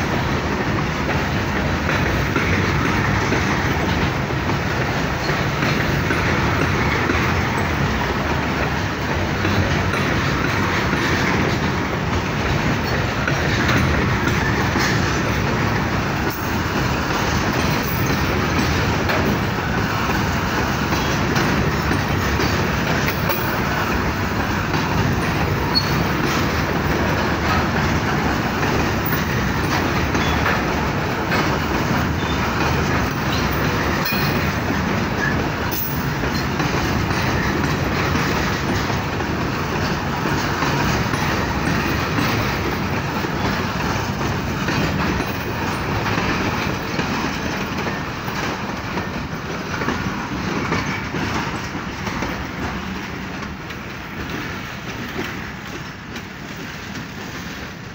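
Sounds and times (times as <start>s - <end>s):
wheels clattering over rail joints: 0.0s - 57.6s
freight train rumbling past: 0.0s - 57.9s.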